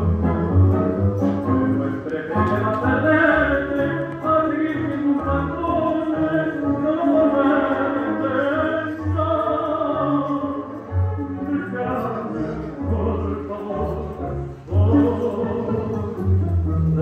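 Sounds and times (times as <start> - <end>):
tango music: 0.0 - 17.0.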